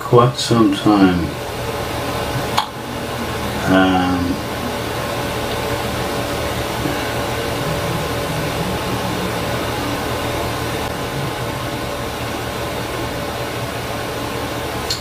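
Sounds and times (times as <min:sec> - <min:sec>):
steady background hiss: 0:00.0 - 0:15.0
low hum: 0:00.7 - 0:15.0.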